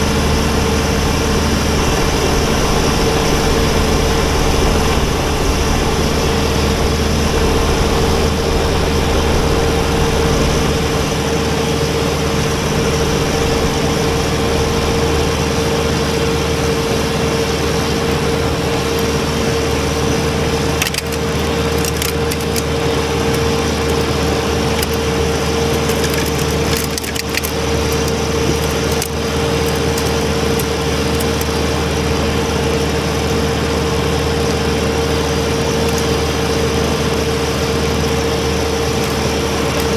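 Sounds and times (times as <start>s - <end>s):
constant high whine: 0.0s - 39.9s
tractor diesel engine running: 0.0s - 39.9s.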